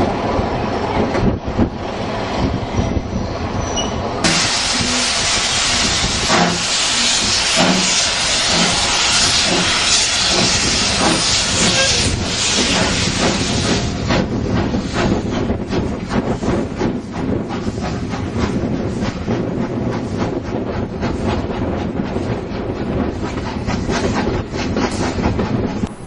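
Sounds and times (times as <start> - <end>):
train running rumble: 0.0 - 26.0
rail clatter: 0.9 - 26.0
steam locomotive venting steam: 4.2 - 26.0.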